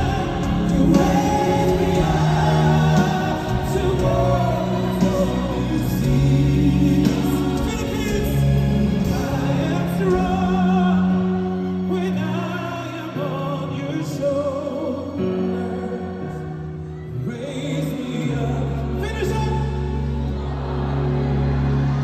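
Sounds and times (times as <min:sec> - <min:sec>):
band playing pop ballad: 0:00.0 - 0:22.0
male vocal group singing: 0:00.0 - 0:22.0.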